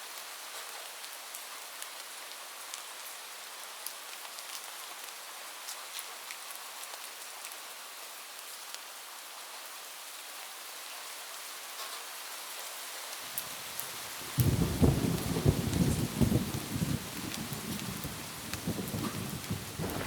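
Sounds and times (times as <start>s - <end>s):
heavy rain on a roof: 0.0s - 20.0s.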